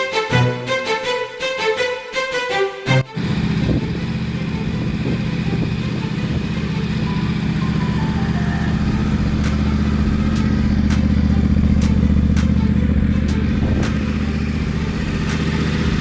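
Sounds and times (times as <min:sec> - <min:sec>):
motorcycle engine running: 0:03.1 - 0:16.0.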